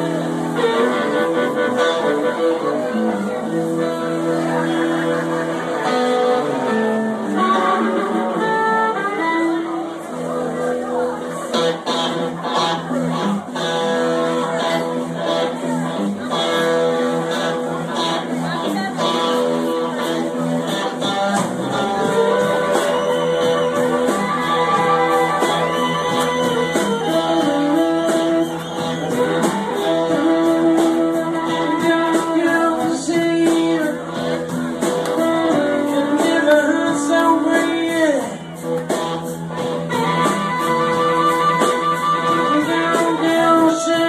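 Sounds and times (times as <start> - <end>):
band playing: 0.0 - 44.0
electric guitar bending notes: 0.0 - 44.0.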